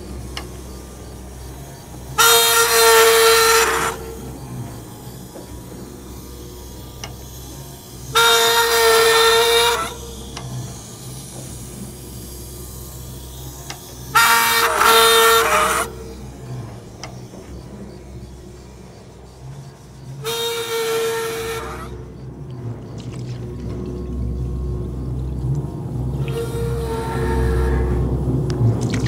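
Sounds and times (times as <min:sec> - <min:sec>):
high-pitched metallic squeal: 0:00.0 - 0:28.8
steady low hum: 0:00.0 - 0:29.0.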